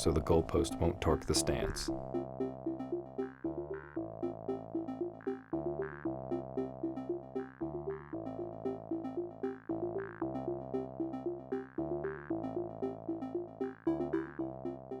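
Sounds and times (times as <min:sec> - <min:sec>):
electronic synthesizer music: 0:00.0 - 0:15.0.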